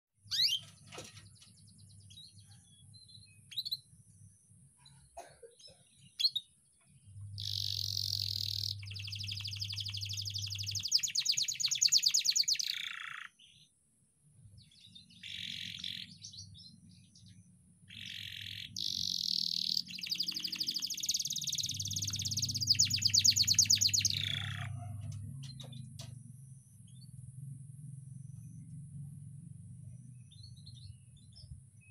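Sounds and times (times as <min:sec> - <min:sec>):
canary singing trills: 0:00.2 - 0:05.1, 0:05.7 - 0:13.7, 0:14.5 - 0:31.9.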